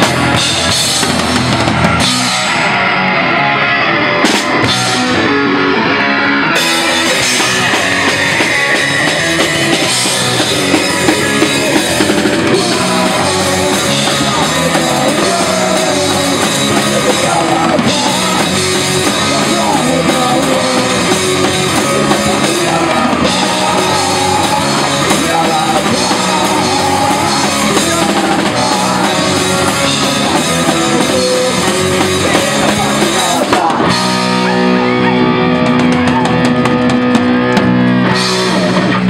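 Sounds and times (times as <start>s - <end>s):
drum kit: 0.0s - 39.0s
live rock band playing: 0.0s - 39.0s.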